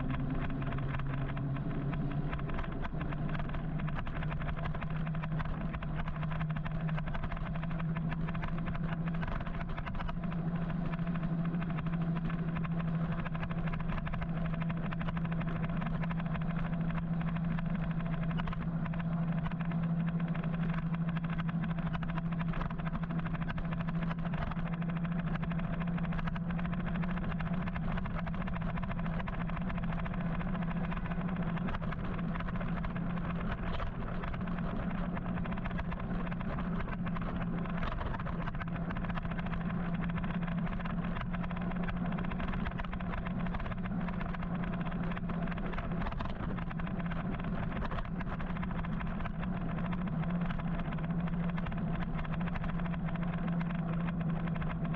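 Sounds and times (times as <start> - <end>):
small clicks and rattles: 0.0 - 54.9
wind and road noise: 0.0 - 54.9.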